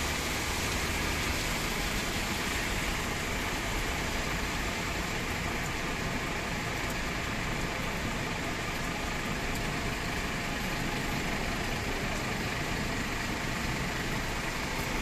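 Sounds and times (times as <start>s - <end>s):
city background hiss: 0.0s - 15.0s.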